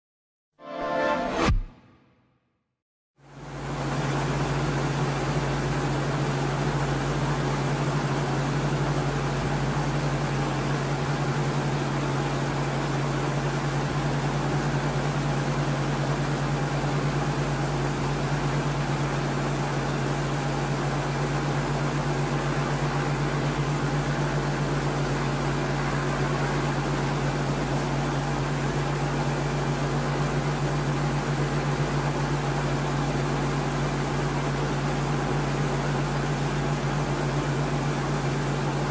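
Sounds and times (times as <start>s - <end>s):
helicopter drone: 3.3s - 38.9s.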